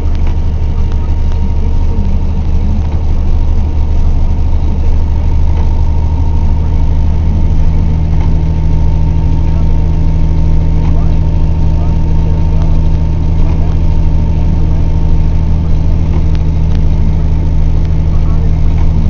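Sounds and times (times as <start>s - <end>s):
thin steady whine: 0.0s - 19.0s
truck engine drone: 0.0s - 19.0s.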